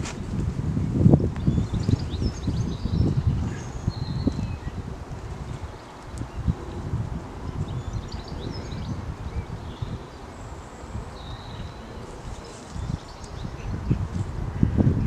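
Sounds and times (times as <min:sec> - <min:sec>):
wind rumbling on microphone: 0:00.0 - 0:15.0
birds chirping: 0:01.3 - 0:15.0.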